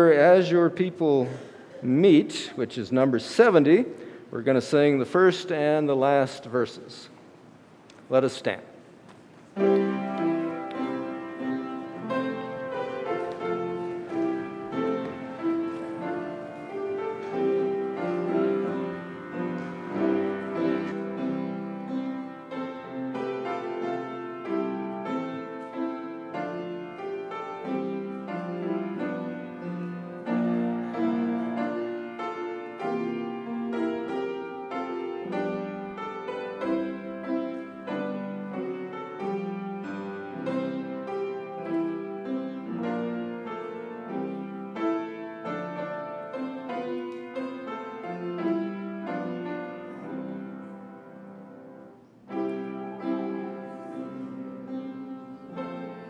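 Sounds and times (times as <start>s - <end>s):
piano playing a hymn in chords: 0.0s - 7.1s, 9.4s - 56.0s.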